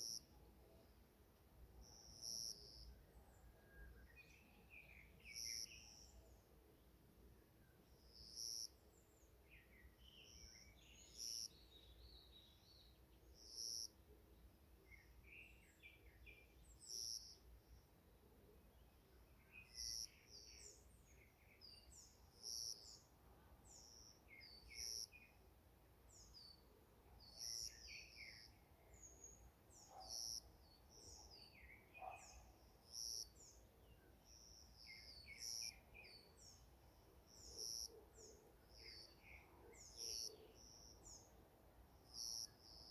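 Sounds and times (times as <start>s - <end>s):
birds chirping softly: 0.0s - 42.9s.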